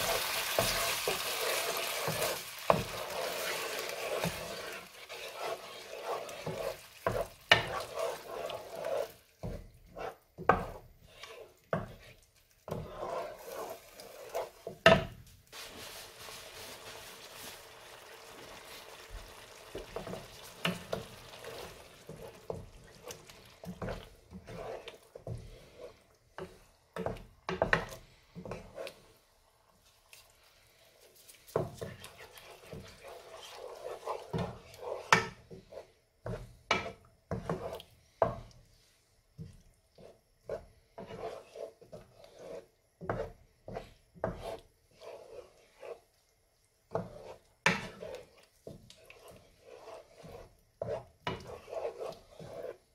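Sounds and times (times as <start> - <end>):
wooden spoon scraping frying pan: 0.0 - 46.2, 46.9 - 52.9.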